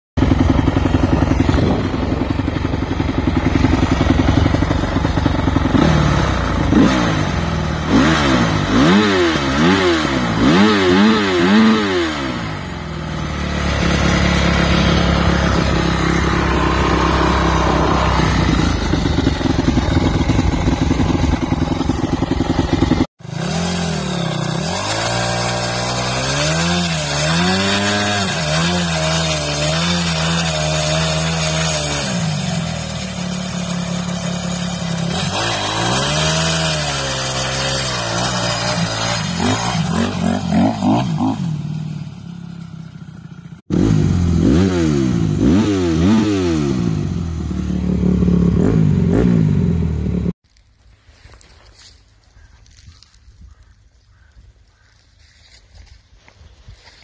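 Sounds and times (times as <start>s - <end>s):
dirt bike engine idling and revving: 0.2s - 57.0s.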